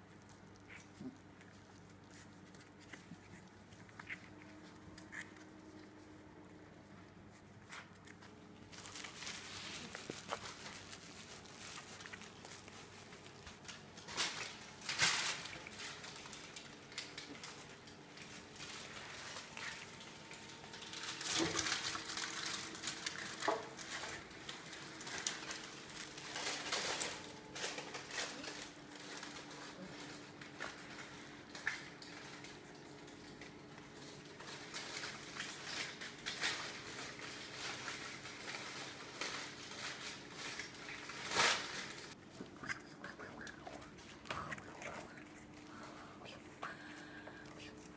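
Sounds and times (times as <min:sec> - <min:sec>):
patter of small paws: 0:00.0 - 0:47.9.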